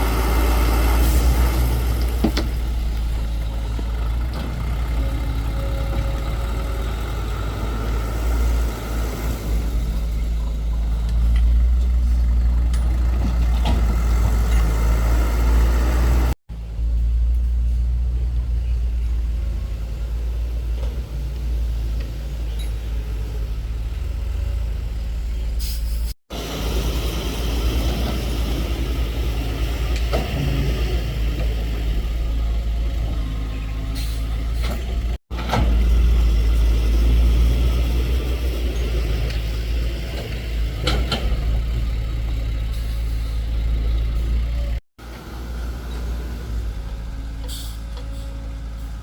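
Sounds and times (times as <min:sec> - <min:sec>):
excavator diesel engine rumbling: 0:00.0 - 0:49.0.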